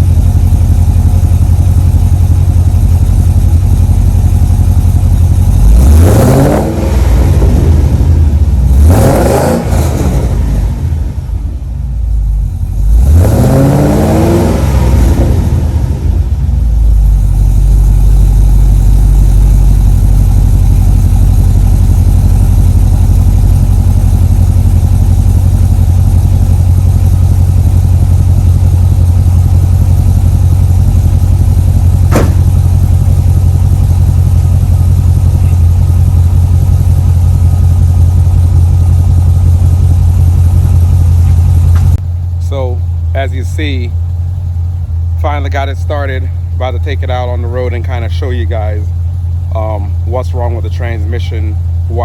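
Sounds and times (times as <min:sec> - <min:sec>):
car engine revving and idling: 0:00.0 - 0:52.0.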